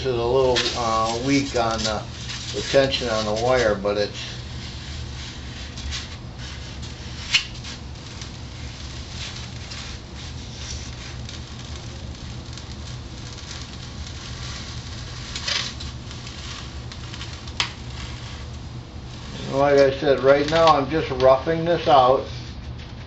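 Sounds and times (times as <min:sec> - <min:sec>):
steady low hum: 0:00.0 - 0:23.0
foam scraping on table: 0:00.4 - 0:21.0.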